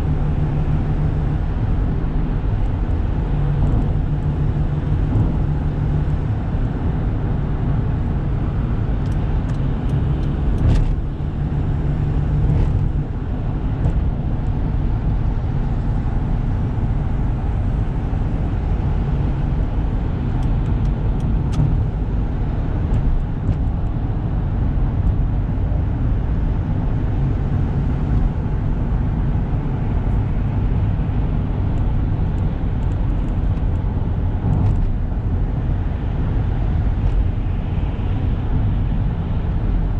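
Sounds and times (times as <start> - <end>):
diesel engine rumble: 0.0 - 39.9
road noise: 0.0 - 39.9.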